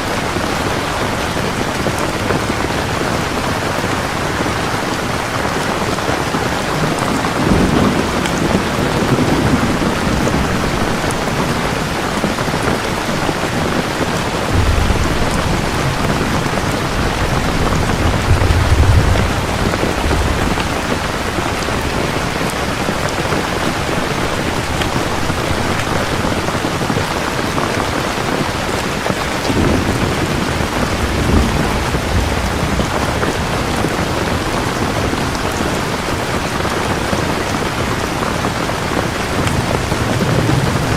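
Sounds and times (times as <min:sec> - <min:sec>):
heavy rain falling: 0:00.0 - 0:40.9
thunder rumbling: 0:00.0 - 0:40.9.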